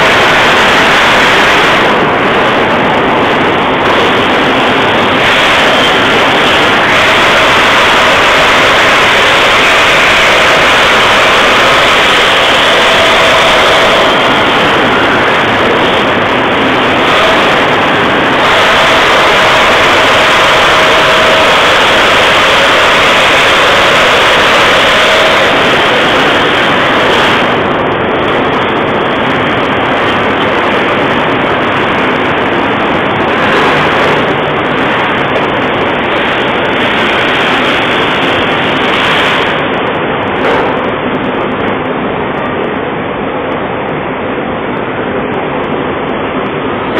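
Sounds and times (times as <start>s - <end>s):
faint hum: 0.0s - 46.9s
rolling mill machinery din: 0.0s - 46.9s.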